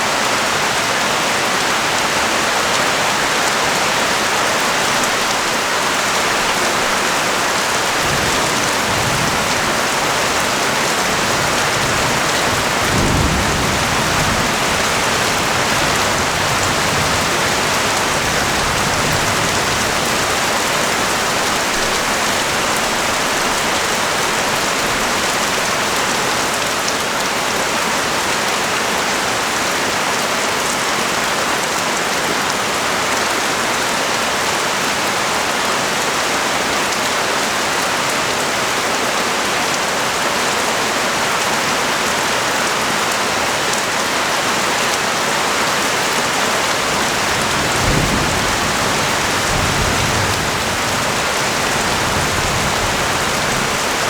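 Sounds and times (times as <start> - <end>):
pouring rain: 0.0 - 54.0.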